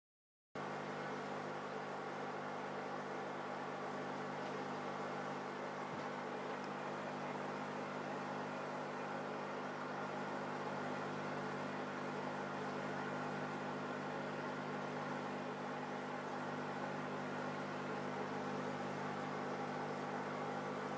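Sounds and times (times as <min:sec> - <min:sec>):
aquarium equipment humming: 0:00.6 - 0:20.9.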